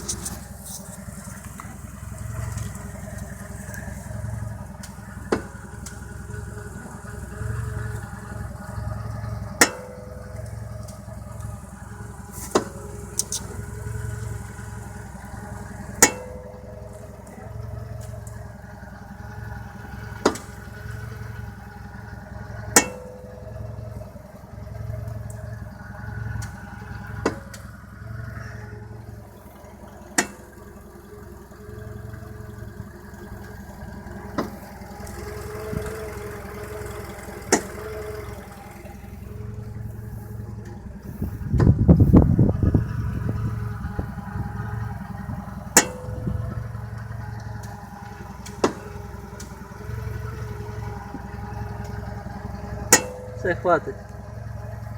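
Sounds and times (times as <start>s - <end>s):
sharp clicks from car: 0.0s - 8.2s, 9.3s - 19.1s, 20.0s - 22.0s, 25.0s - 54.9s
car engine running: 0.0s - 54.9s.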